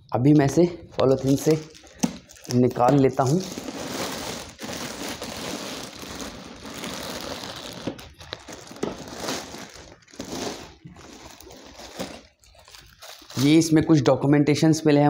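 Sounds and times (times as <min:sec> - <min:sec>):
plastic bag rustling and crinkling: 0:01.0 - 0:13.8.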